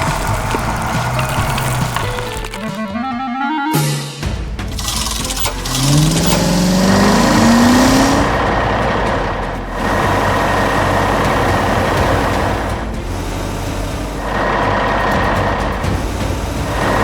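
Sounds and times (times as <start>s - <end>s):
heavy truck engine revving: 0.0s - 2.8s, 4.6s - 17.0s.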